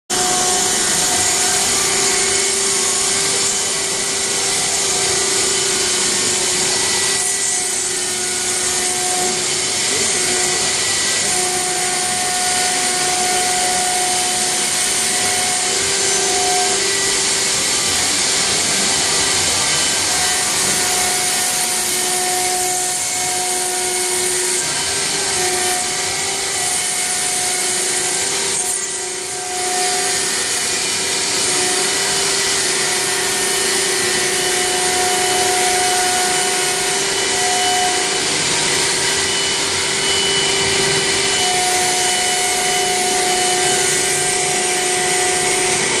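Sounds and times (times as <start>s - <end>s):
router bits scraping stone: 0.1s - 46.0s
spindle motors whining: 0.1s - 46.0s.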